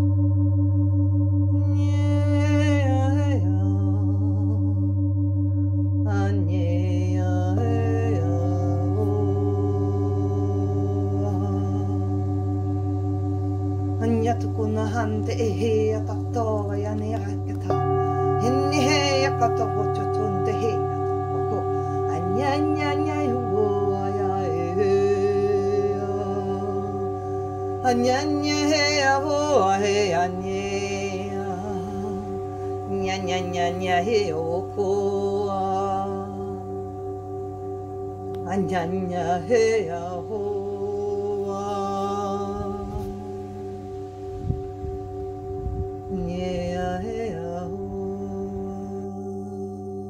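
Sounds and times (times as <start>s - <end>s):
singing bowl ringing: 0.0s - 50.0s
steady low drone: 0.0s - 50.0s
wordless chant-like singing: 1.6s - 4.9s, 6.1s - 37.2s, 38.3s - 44.3s, 45.2s - 50.0s.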